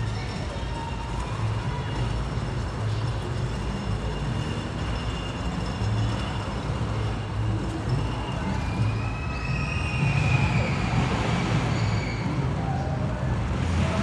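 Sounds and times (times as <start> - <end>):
chairlift low rumble: 0.0 - 14.0.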